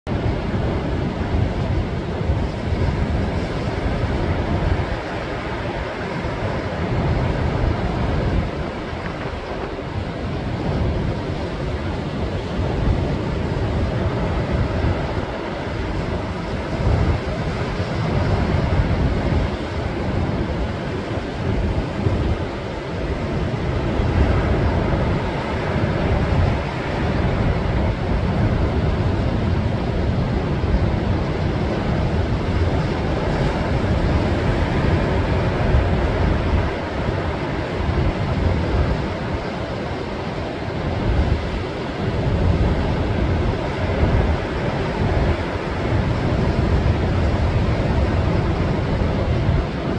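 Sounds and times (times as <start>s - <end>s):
wind buffeting microphone: 0.0s - 49.9s
waves crashing on rocks: 0.2s - 49.9s.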